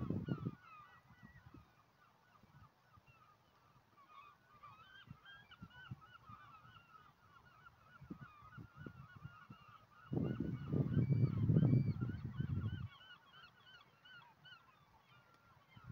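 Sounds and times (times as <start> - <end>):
flock of birds calling: 0.0 - 15.9.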